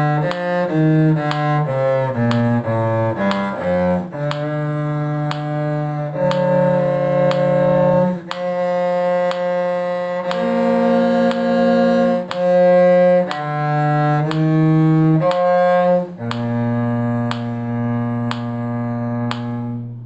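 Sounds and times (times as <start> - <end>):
bowed cello duet: 0.0 - 20.0.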